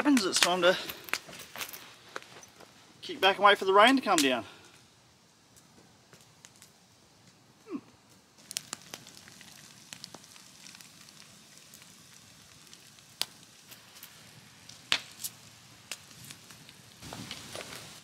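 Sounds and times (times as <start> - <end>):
campfire crackling: 0.0 - 18.0
low hiss: 0.0 - 18.0.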